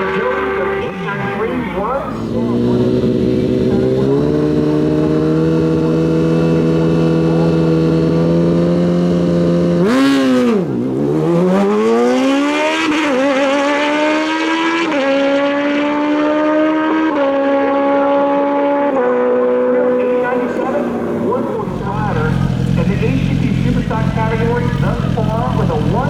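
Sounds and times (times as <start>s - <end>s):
motorcycles revving and accelerating: 0.0s - 26.0s.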